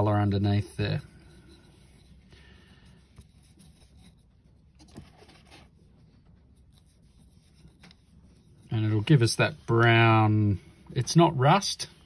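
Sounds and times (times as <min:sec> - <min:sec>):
brush scratching: 0:00.0 - 0:12.0.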